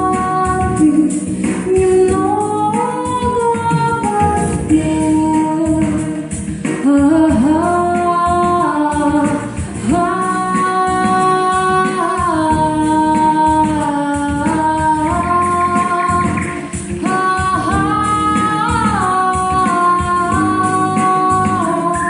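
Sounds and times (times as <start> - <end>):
girl singing slow song: 0.0 - 22.0
musical accompaniment: 0.0 - 22.0.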